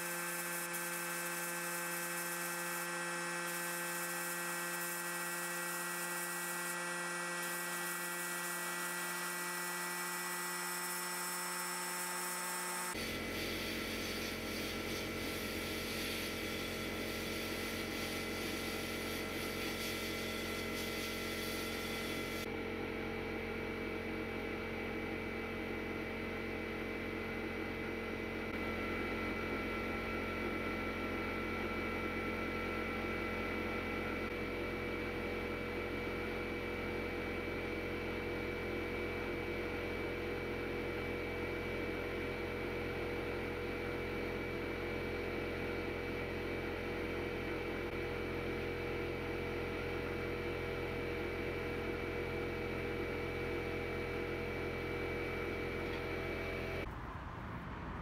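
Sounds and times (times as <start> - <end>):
steady motor hum: 0.0 - 57.0.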